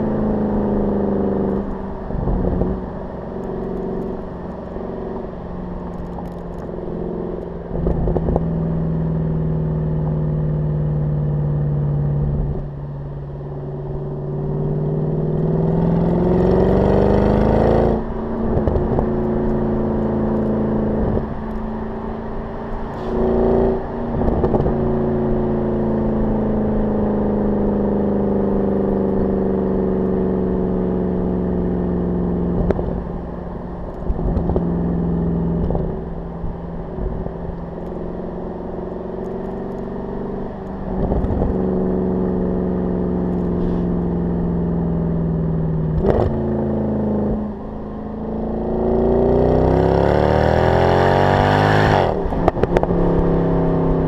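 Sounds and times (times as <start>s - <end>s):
car exhaust engine note: 0.0s - 50.7s.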